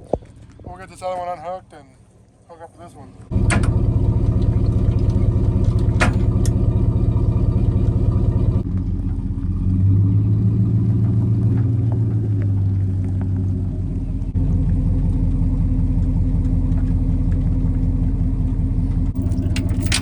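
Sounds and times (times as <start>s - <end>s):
vehicle engine running: 3.3s - 20.0s.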